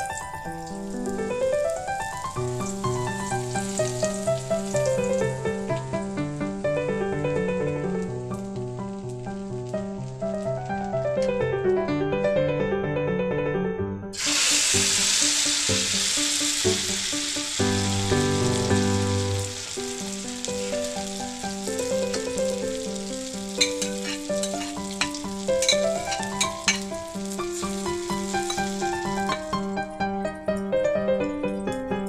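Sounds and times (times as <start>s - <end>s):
food sizzling in hot oil: 0.0s - 11.2s, 14.1s - 30.0s
keyboard background music: 0.0s - 32.0s.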